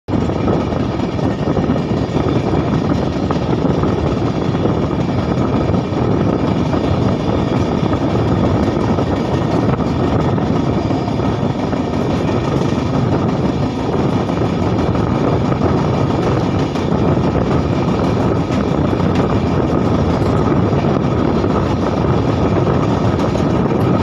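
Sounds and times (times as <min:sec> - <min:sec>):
train wheels rumbling on rails: 0:00.1 - 0:24.0
wind rushing: 0:00.1 - 0:24.0.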